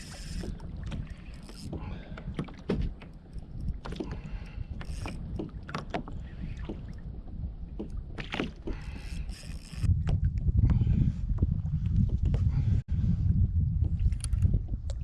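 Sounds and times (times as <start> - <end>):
water splashing against kayak: 0.0 - 12.4
wind rumble on microphone: 0.0 - 15.0.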